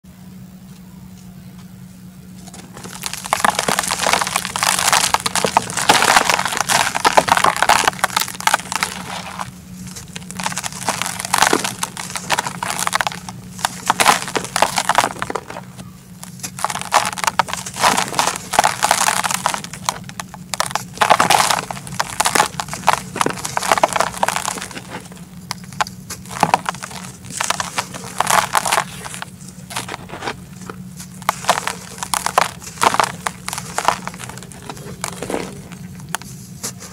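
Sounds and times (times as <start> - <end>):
dirt crumbling by hand: 2.4 - 36.9.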